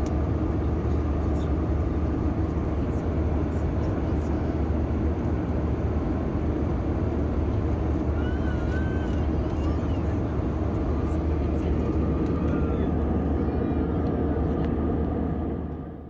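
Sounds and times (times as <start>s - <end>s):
jet engines and airflow rumble: 0.0s - 16.0s.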